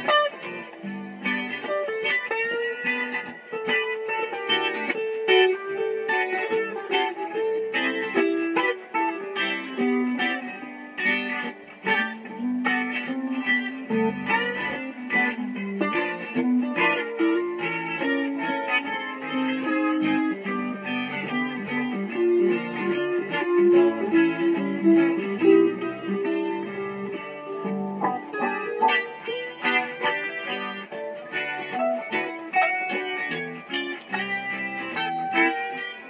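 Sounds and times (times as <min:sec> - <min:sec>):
guitar playing: 0:00.0 - 0:36.0.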